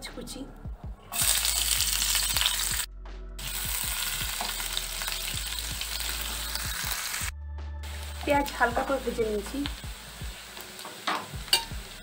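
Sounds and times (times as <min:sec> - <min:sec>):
onions sizzling in oil: 0:01.2 - 0:12.0.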